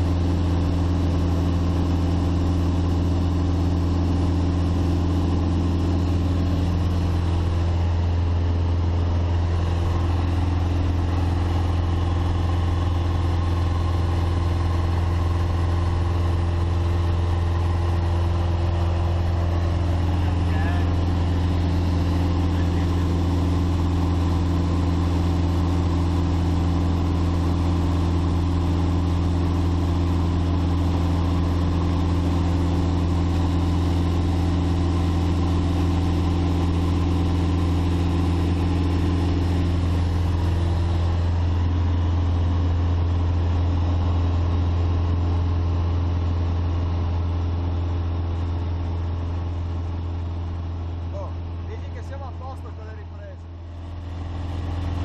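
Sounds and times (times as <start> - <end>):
light plane engine drone: 0.0 - 55.0.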